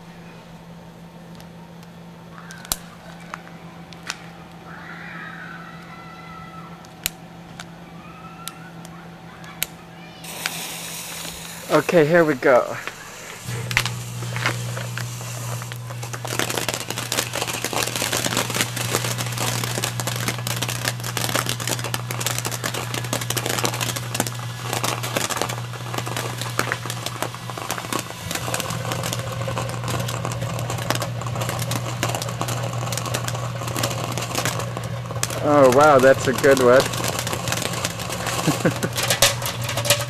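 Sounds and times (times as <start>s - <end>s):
firework fountains crackling: 0.0s - 40.0s
microwave oven hum: 0.0s - 40.0s.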